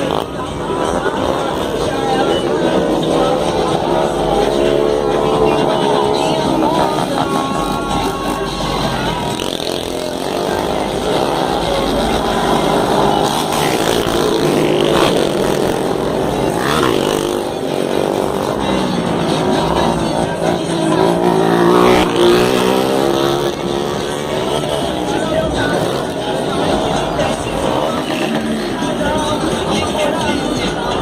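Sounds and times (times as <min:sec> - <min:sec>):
vehicle engines revving: 0:00.0 - 0:31.0.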